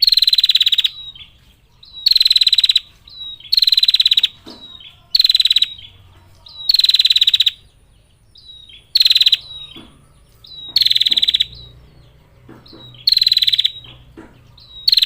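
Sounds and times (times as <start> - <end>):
bird fast-pulsed trills: 0.0 - 15.0.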